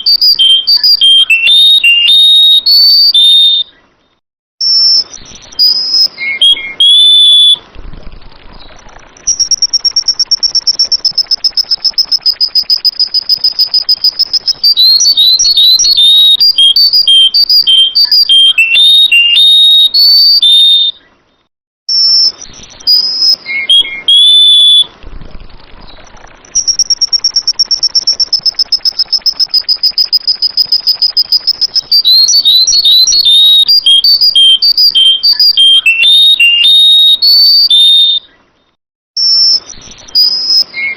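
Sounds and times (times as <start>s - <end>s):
bird trilling and whistling: 0.0s - 3.8s, 4.6s - 7.7s, 8.6s - 21.1s, 21.9s - 25.0s, 25.8s - 38.4s, 39.2s - 40.9s.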